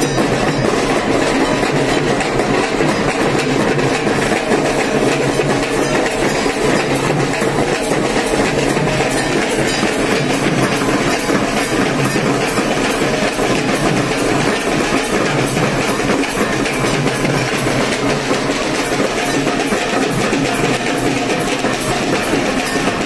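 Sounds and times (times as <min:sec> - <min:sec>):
drums and cymbals procession beat: 0:00.0 - 0:23.0.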